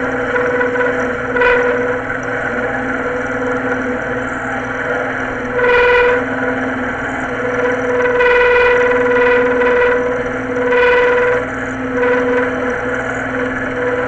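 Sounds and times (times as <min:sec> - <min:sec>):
mill whining high-pitched: 0:00.0 - 0:14.0.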